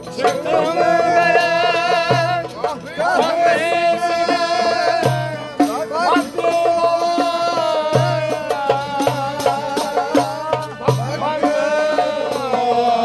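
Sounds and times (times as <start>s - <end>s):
hand-drum strikes: 0.0s - 13.0s.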